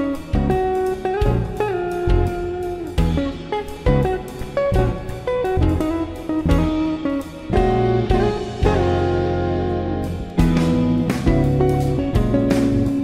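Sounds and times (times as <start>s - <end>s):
plucked guitar notes: 0.0s - 13.0s
sustained bass notes: 0.0s - 13.0s.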